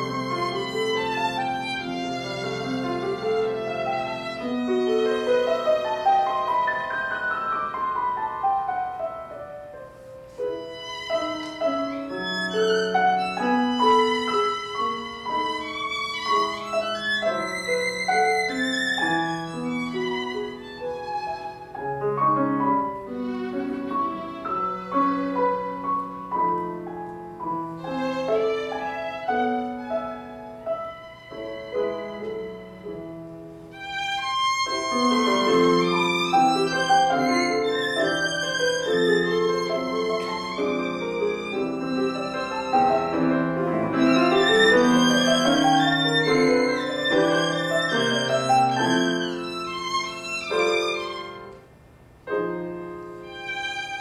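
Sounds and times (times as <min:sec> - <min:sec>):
violin melody with vibrato: 0:00.0 - 0:09.7, 0:10.3 - 0:51.6, 0:53.0 - 0:54.0
grand piano playing: 0:00.0 - 0:54.0.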